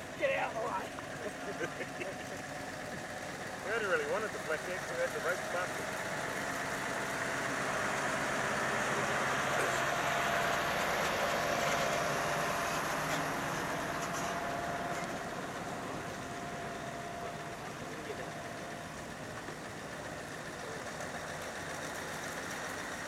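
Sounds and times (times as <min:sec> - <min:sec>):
truck engine driving past: 0:00.0 - 0:23.0.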